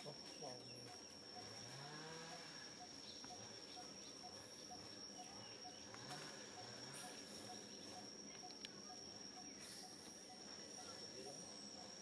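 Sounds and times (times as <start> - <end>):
high insect whine: 0.0 - 12.0.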